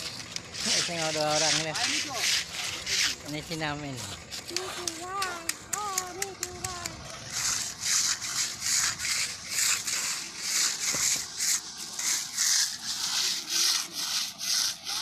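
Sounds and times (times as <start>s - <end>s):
rhythmic scraping on concrete: 0.0s - 15.0s.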